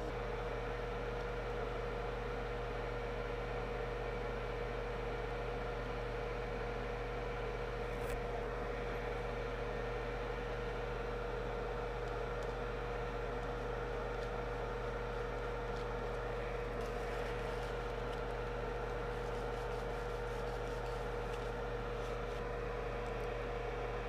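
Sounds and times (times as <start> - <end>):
low mains hum: 0.0 - 24.0.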